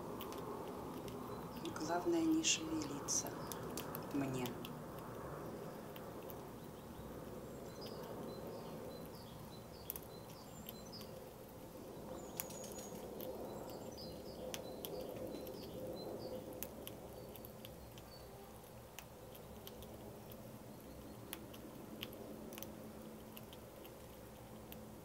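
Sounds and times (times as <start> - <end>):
low background noise: 0.0 - 25.0
squirrel gnawing nut clicks: 0.0 - 25.0
small bird chirps: 0.1 - 24.8.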